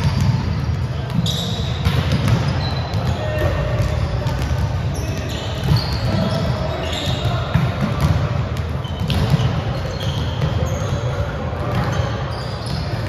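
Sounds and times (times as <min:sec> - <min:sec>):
balls struck and bouncing: 0:00.0 - 0:12.1
players' voices: 0:00.0 - 0:13.0
sneakers squeaking: 0:00.0 - 0:13.0.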